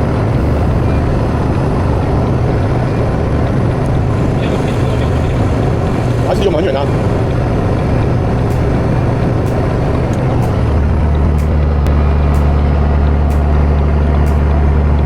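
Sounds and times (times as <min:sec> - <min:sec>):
boat engine low hum: 0:00.0 - 0:15.0.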